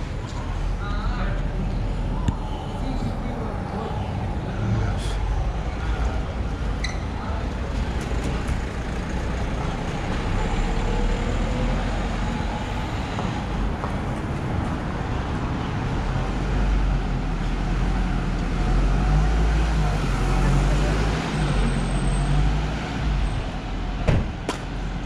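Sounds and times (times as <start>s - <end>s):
cars driving past: 0.0s - 25.0s.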